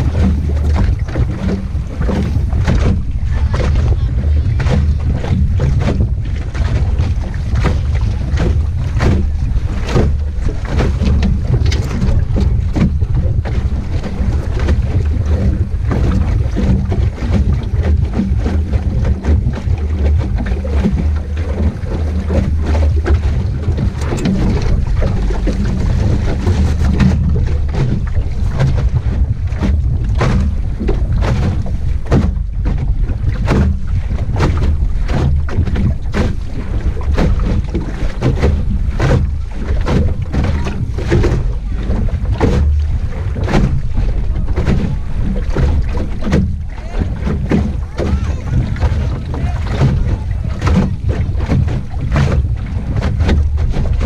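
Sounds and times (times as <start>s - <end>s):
water slapping against hull: 0.0s - 54.0s
wind rumbling on microphone: 0.0s - 54.0s.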